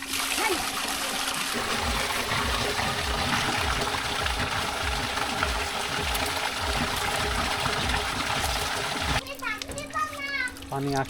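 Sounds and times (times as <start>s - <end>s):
water gushing and splashing: 0.0s - 9.2s.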